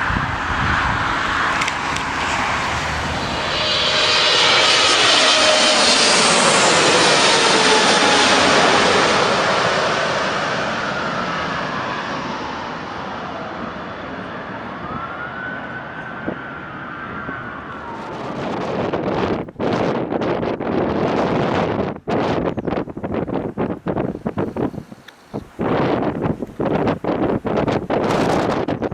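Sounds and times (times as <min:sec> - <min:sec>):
jet engines passing close by: 0:00.0 - 0:28.9.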